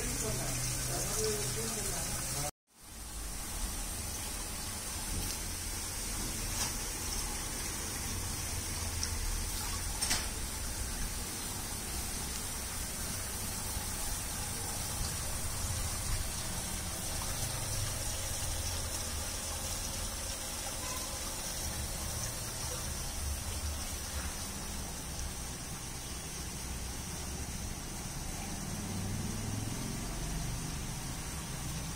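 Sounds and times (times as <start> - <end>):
fountain water splashing into pool: 0.0 - 31.9.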